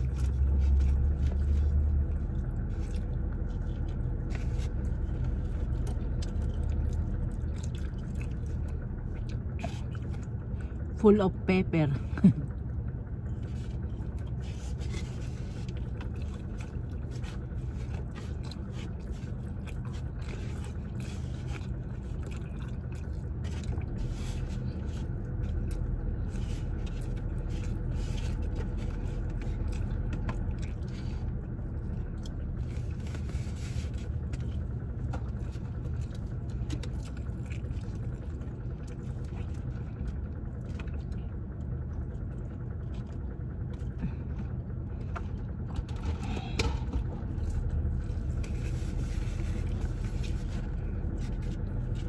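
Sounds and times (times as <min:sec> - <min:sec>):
low background hum: 0:00.0 - 0:52.0.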